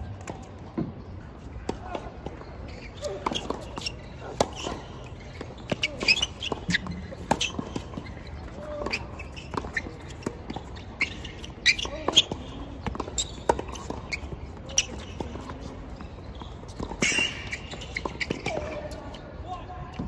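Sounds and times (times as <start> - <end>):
tennis balls struck and bouncing: 0.1 - 19.0.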